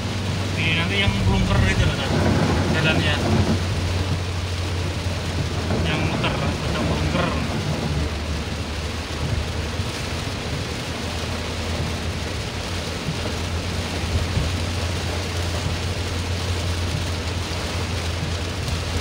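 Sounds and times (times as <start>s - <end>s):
engine and road noise: 0.0s - 19.0s
heavy rain drumming on car roof: 0.0s - 19.0s.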